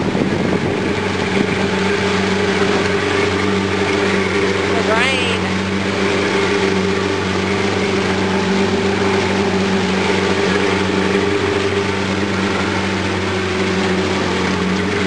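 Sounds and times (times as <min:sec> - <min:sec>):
boat engine running: 0:00.0 - 0:15.0
wind: 0:00.0 - 0:15.0.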